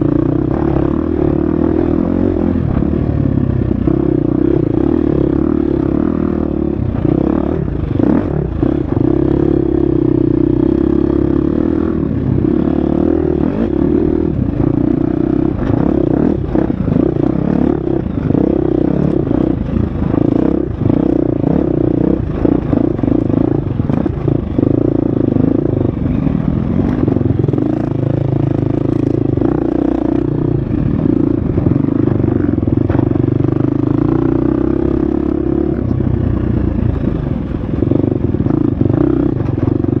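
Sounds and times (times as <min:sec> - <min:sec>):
dirt bike engine running hard: 0:00.0 - 0:40.0.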